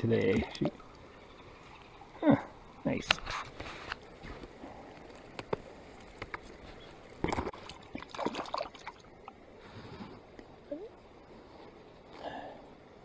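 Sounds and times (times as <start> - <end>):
water splashing and sloshing: 0.0 - 12.3.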